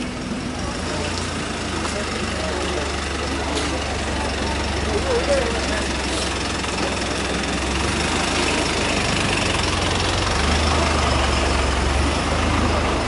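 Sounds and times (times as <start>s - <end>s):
street noise: 0.0s - 13.0s
truck engine idling: 0.0s - 13.0s.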